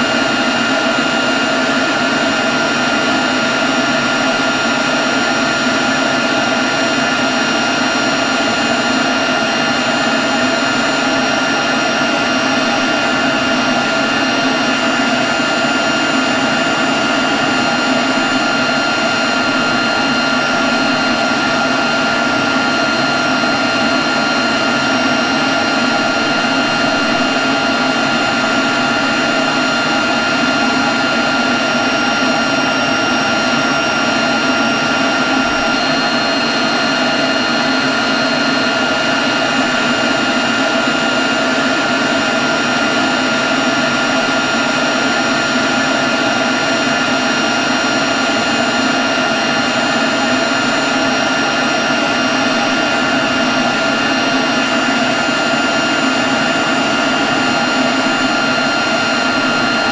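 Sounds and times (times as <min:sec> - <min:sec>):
leaf blower running: 0:00.0 - 0:59.9.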